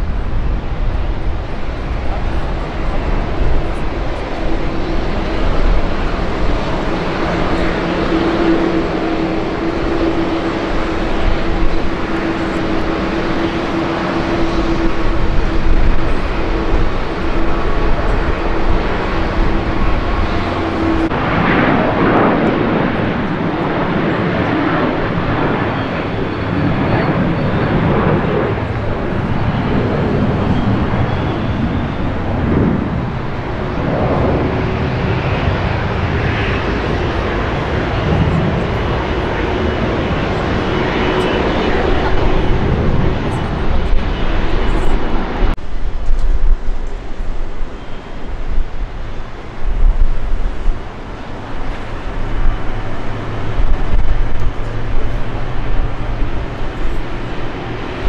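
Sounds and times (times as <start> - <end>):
jet aircraft drone: 0.0 - 58.0.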